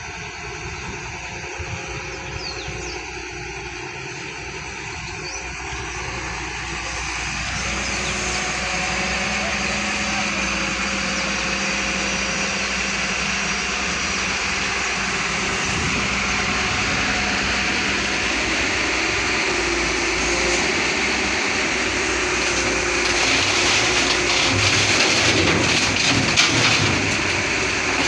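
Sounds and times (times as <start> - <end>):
heavy engine droning: 0.0 - 28.0.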